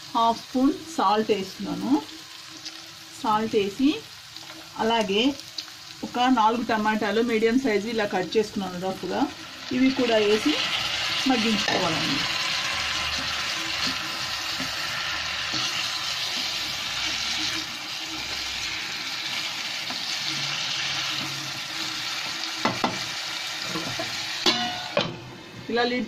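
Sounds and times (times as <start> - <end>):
vegetables sizzling in oil: 0.0 - 26.0.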